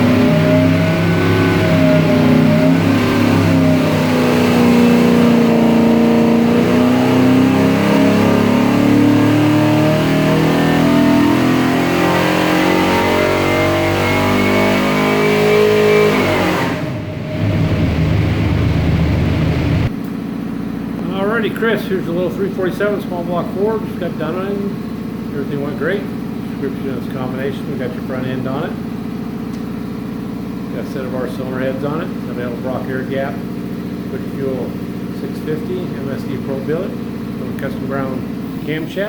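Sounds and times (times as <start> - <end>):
engine revving under load: 0.0 - 39.0.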